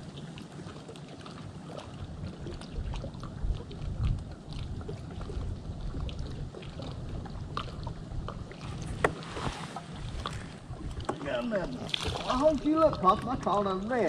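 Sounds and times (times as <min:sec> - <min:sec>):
water lapping against boat hull: 0:00.0 - 0:14.0
wind rumble on microphone: 0:01.7 - 0:14.0.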